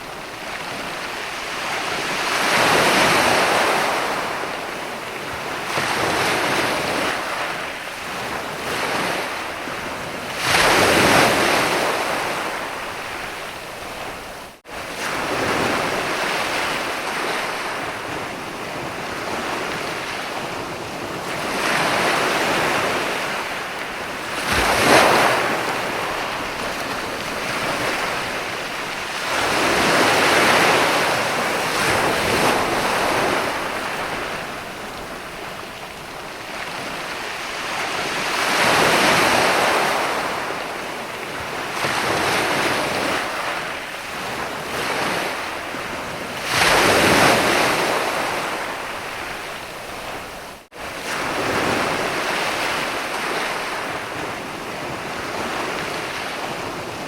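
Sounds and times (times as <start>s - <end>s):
ocean waves breaking on sand: 0.0s - 57.0s.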